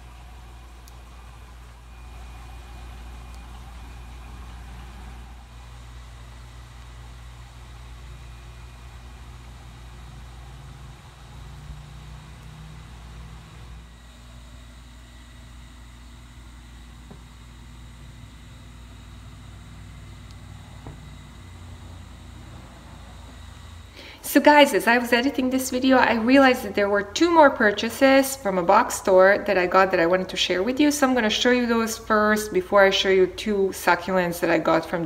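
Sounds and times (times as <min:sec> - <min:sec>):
faint high whine: 0:00.0 - 0:35.0
machinery rumble and hum: 0:00.0 - 0:35.0.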